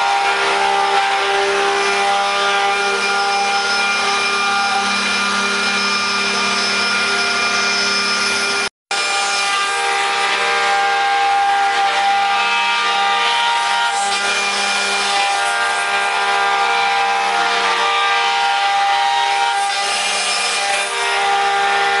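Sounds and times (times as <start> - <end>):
wood router spindles whining: 0.0 - 22.0.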